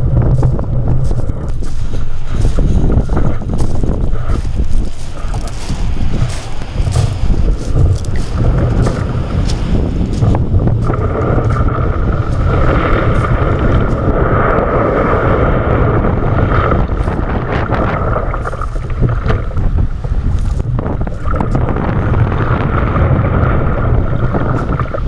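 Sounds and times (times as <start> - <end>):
choppy waves slapping: 0.0 - 25.0
wind buffeting microphone: 0.0 - 25.0
paddle splashing water: 1.0 - 25.0.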